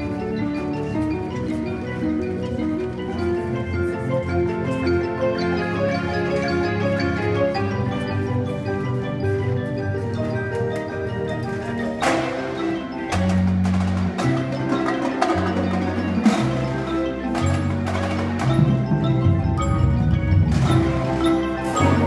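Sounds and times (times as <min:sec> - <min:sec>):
marimba and mallet notes: 0:00.0 - 0:22.0.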